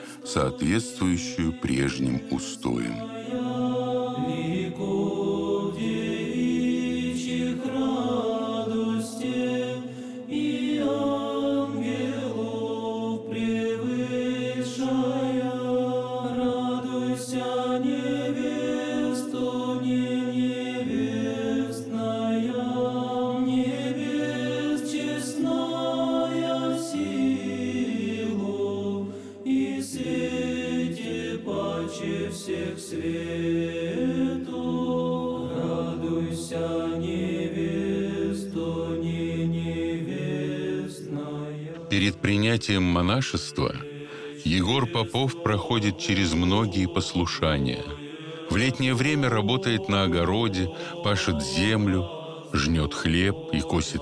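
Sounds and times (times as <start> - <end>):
choir chanting in held chords: 0.0 - 54.0.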